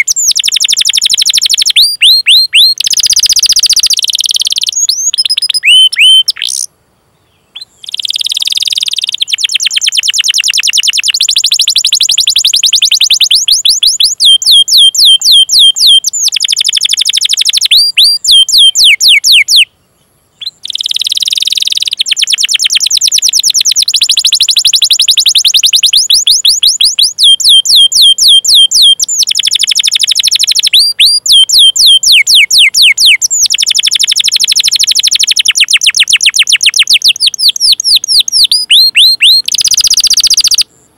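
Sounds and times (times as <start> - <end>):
canary singing: 0.0 - 6.7, 7.3 - 19.7, 20.4 - 40.7.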